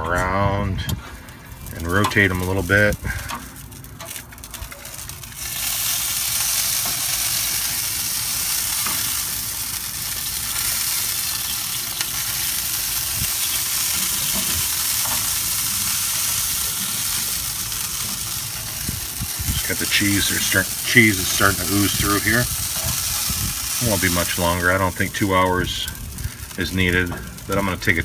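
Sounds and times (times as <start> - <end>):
food sizzling on a grill: 1.1 - 28.0.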